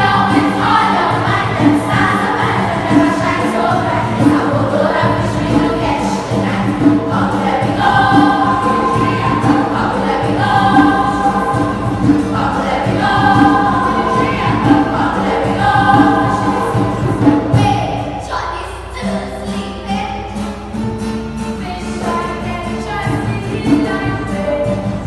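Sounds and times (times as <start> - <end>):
children's choir singing: 0.0 - 20.6, 21.6 - 25.0.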